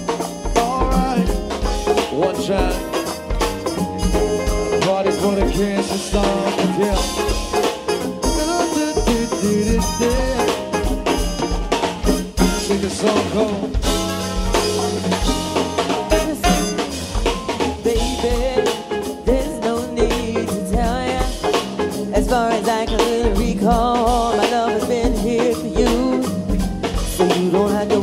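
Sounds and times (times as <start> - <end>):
drum kit beat: 0.0 - 28.0
live band playing: 0.0 - 28.0.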